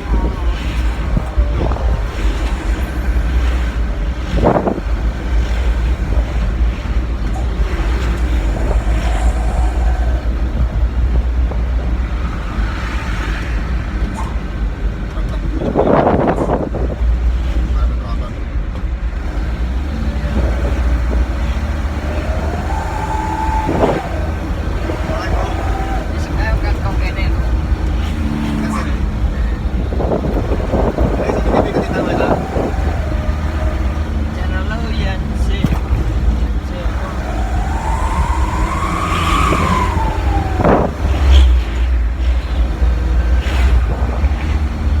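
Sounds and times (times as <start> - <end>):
truck engine deep rumble: 0.0 - 45.0.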